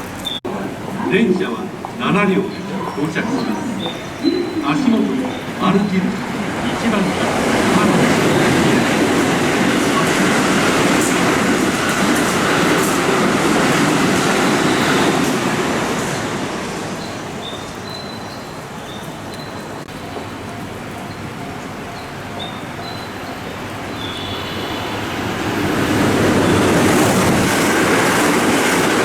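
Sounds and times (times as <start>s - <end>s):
train wheel and motor noise: 0.0s - 29.0s.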